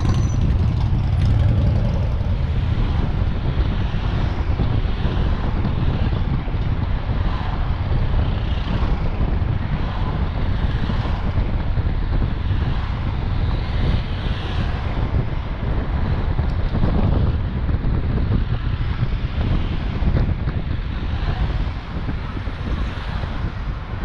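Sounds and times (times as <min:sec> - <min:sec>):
vehicle road and engine rumble: 0:00.0 - 0:24.0
wind buffeting microphone: 0:00.0 - 0:24.0.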